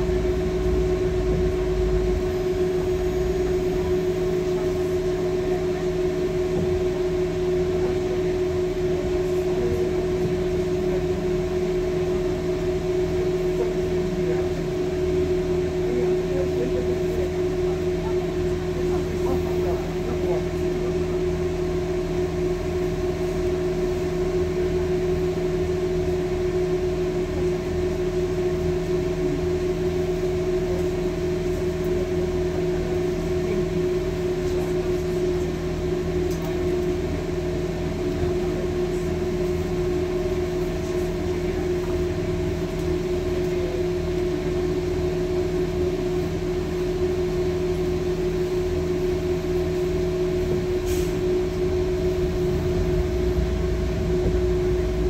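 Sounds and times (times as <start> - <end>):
bus engine hum: 0.0 - 55.0.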